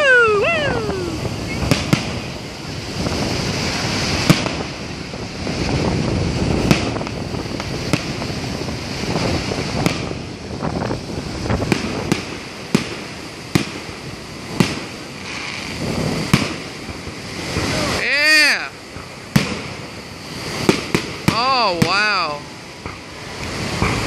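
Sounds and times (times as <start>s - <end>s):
steady background noise: 0.0s - 24.0s
firework shells bursting: 0.1s - 24.0s.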